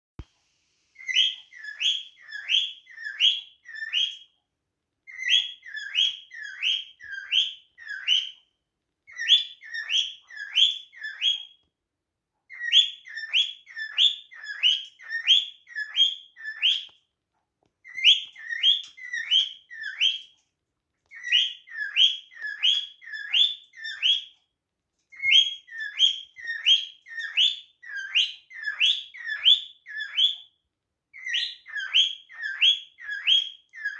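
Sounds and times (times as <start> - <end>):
cockatiel whistling: 1.0 - 4.3, 5.1 - 8.4, 9.1 - 11.6, 12.5 - 17.0, 17.8 - 20.3, 21.1 - 24.4, 25.1 - 30.5, 31.1 - 33.9.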